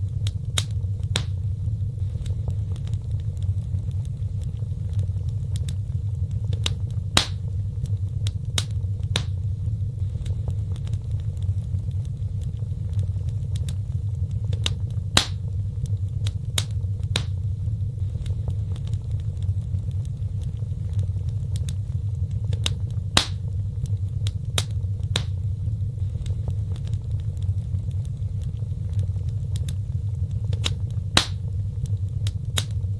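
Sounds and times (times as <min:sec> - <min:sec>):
fireplace fire crackling: 0:00.0 - 0:32.9.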